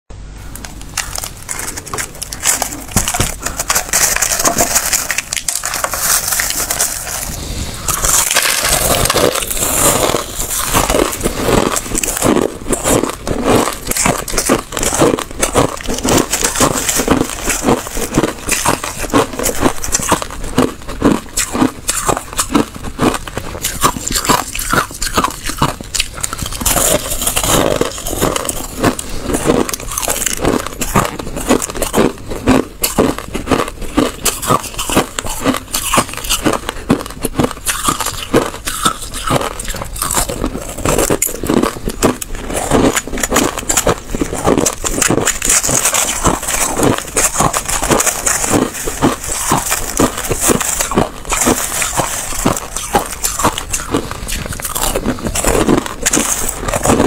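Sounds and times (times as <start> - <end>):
crushed ice being chewed: 0.4 - 57.0.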